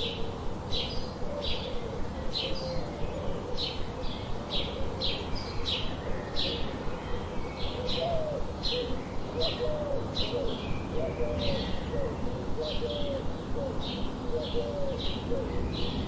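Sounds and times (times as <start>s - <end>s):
lower bird warbling: 0.0s - 15.6s
low background hiss: 0.0s - 16.0s.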